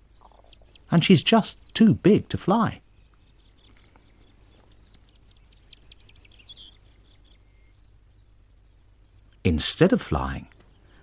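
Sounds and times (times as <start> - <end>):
low steady background: 0.0 - 11.0
small birds chirping: 0.0 - 11.0.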